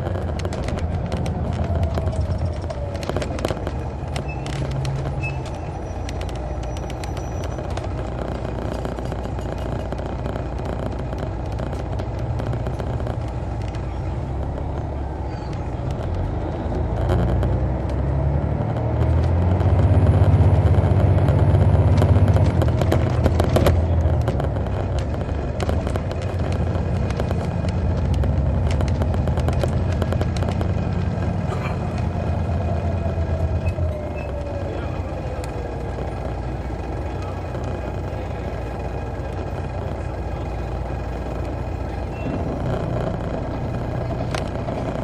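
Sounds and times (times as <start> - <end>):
coach diesel engine running: 0.0 - 45.0.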